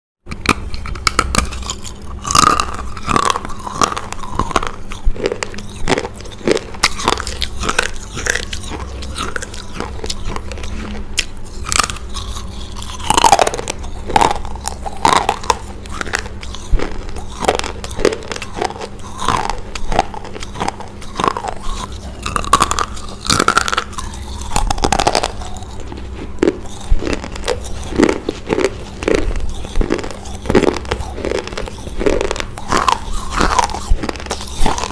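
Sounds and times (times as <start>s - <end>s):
crunching dry bread rolls: 0.3s - 34.9s.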